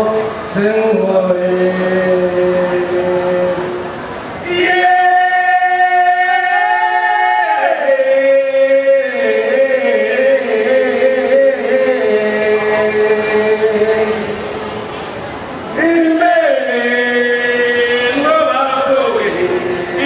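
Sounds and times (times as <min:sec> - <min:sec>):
man chanting into microphone: 0:00.0 - 0:03.8, 0:04.4 - 0:14.5, 0:15.7 - 0:20.0.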